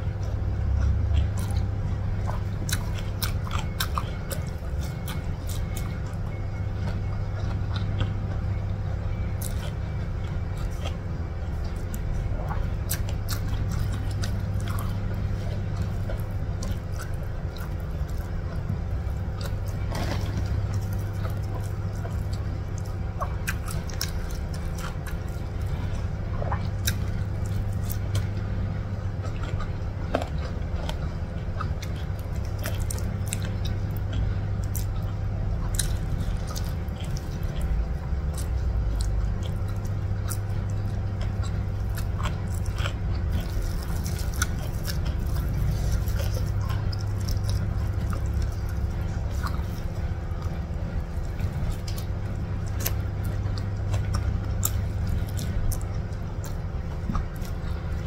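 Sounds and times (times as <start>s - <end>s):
moist chewing: 0.0s - 58.0s
steady low hum: 0.0s - 58.0s.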